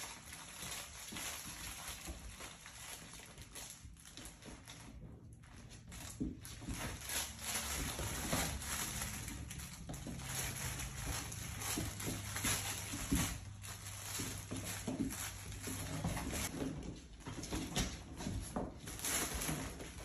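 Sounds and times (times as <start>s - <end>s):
puppy paws pattering on hard floor: 0.0s - 20.0s.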